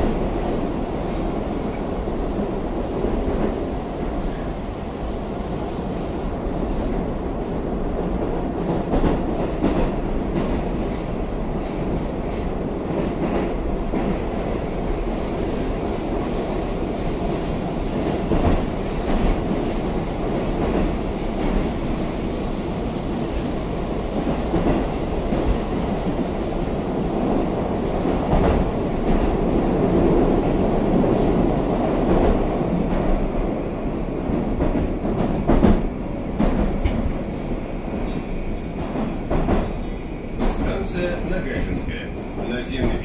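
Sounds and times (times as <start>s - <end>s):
metro train wheels rumbling: 0.0s - 43.0s.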